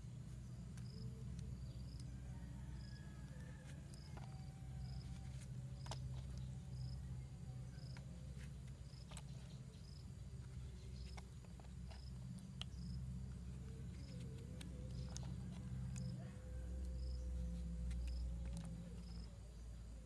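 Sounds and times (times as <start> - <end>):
cricket chirping: 0.0 - 20.0
steady low hum: 0.0 - 20.0.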